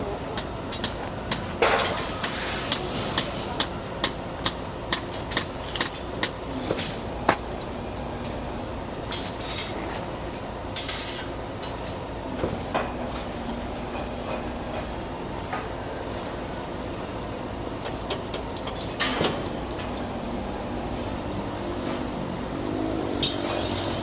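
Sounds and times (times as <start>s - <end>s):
construction machinery noise: 0.0s - 24.0s.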